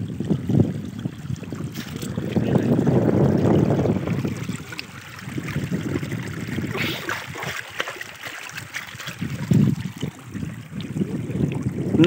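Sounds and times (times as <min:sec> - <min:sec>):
wind on microphone: 0:00.0 - 0:07.8, 0:08.5 - 0:12.0
water trickling in channel: 0:00.0 - 0:12.0.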